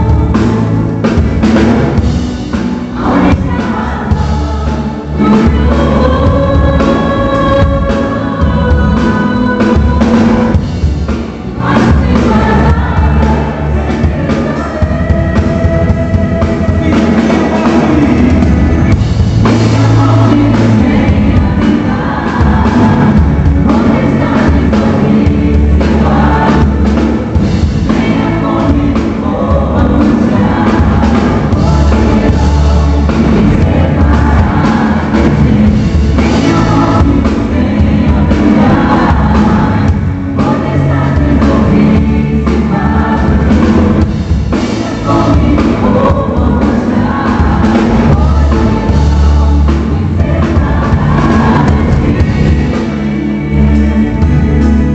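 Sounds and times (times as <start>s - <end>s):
band with drums and bass: 0.0s - 54.9s
group of voices singing: 0.0s - 54.9s.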